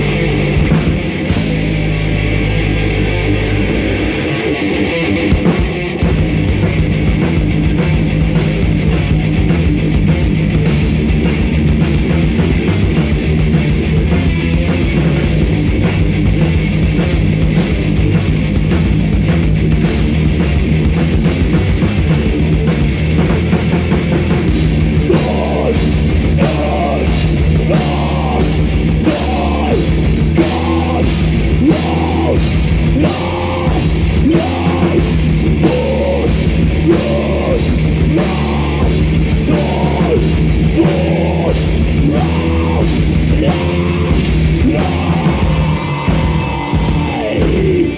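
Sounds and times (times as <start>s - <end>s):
heavy metal band playing live: 0.0s - 47.9s.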